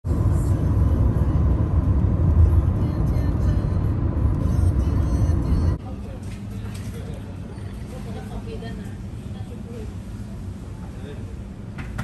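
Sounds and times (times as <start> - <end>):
road noise inside moving vehicle: 0.0 - 12.0.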